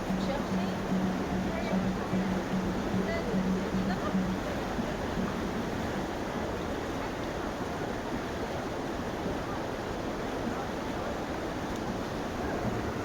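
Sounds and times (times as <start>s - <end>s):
rushing stream water: 0.0s - 13.0s.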